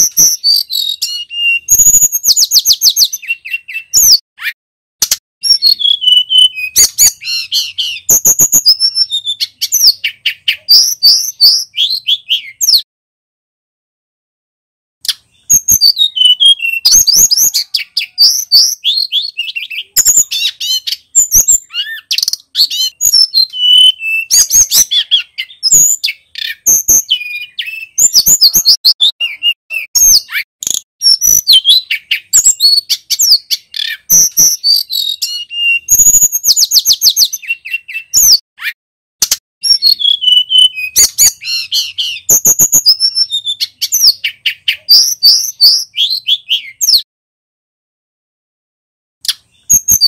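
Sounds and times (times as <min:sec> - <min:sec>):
bird singing chirps and trills: 0:00.0 - 0:04.6, 0:05.4 - 0:12.9, 0:15.0 - 0:38.8, 0:39.6 - 0:47.1, 0:49.2 - 0:50.0.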